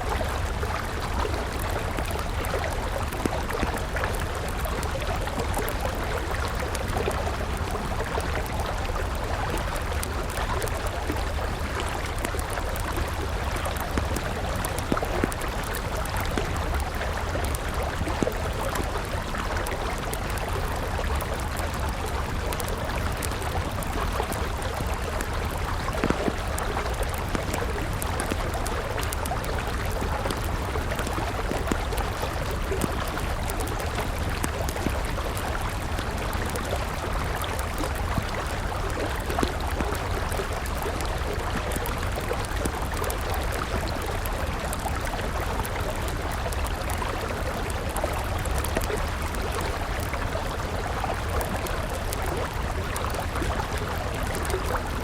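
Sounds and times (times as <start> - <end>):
river flowing: 0.0 - 55.0
campfire crackling: 0.1 - 55.0.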